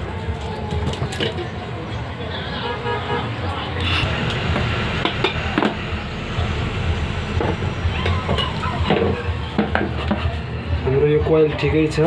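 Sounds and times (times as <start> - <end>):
background traffic rumble: 0.0 - 12.0.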